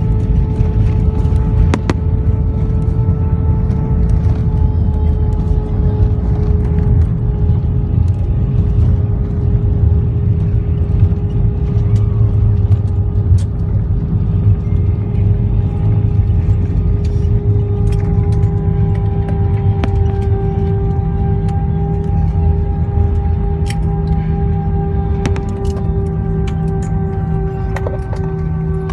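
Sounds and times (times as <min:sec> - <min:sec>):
airliner engines rumbling: 0:00.0 - 0:28.9.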